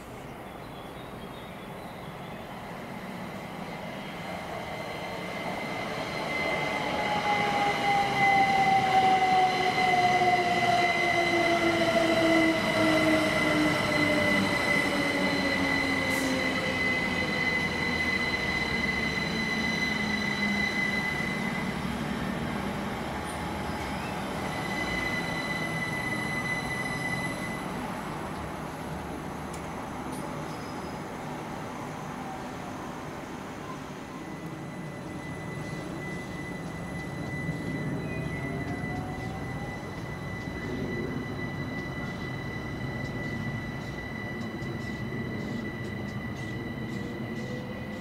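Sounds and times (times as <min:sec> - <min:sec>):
train passing: 0:00.0 - 0:48.0
high squeal: 0:03.6 - 0:28.0, 0:33.6 - 0:48.0.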